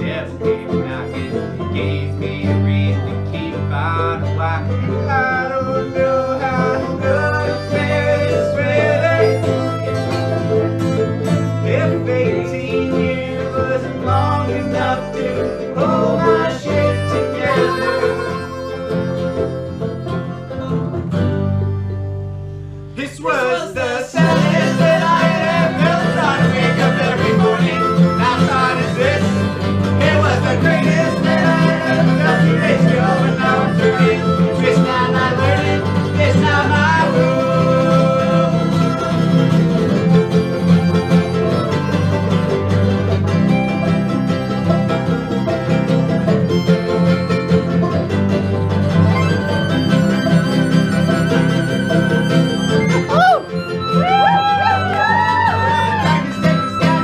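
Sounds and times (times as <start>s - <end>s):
acoustic guitars: 0.0s - 57.0s
banjo: 0.0s - 57.0s.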